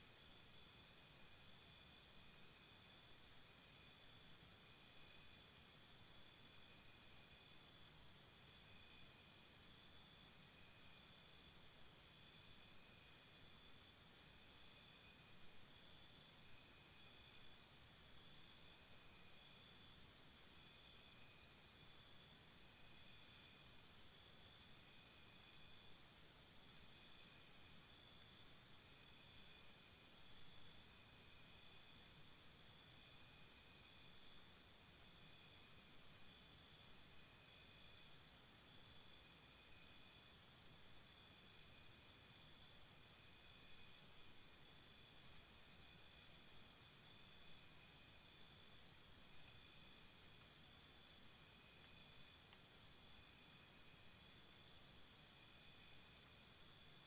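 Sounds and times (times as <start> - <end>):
insects chirping: 0.1 - 57.0.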